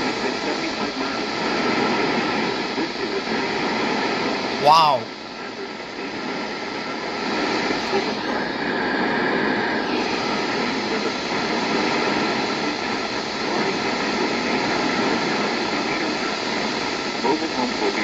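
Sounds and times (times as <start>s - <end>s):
radio static hiss: 0.0s - 4.3s, 5.4s - 18.0s.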